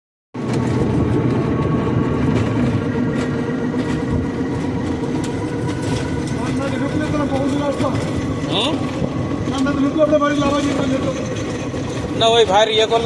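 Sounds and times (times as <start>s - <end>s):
vehicle cabin rumble: 0.4s - 12.4s
light rattles and clicks: 2.3s - 13.0s.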